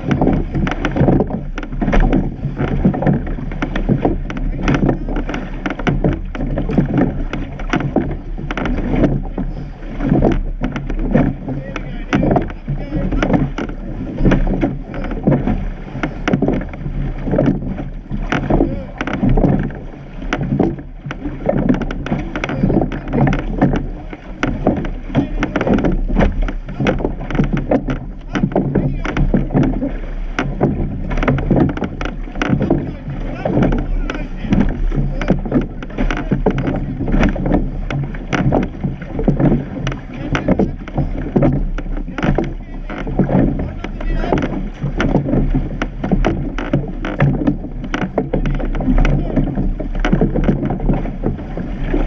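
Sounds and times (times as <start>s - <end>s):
oars knocking and splashing: 0.0s - 52.0s
water rushing along hull: 0.0s - 52.0s
wind on microphone: 0.0s - 52.0s.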